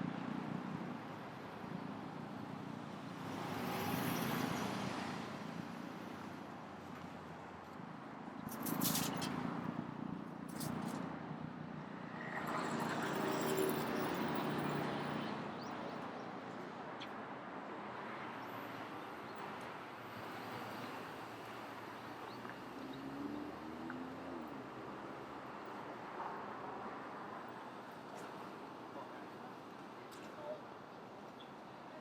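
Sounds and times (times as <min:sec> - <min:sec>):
city street ambience: 0:00.0 - 0:32.0.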